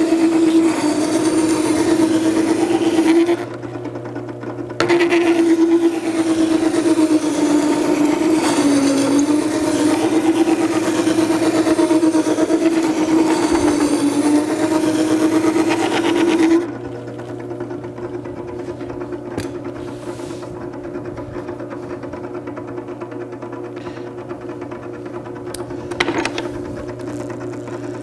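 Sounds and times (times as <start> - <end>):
sharpener motor hum: 0.0 - 28.0.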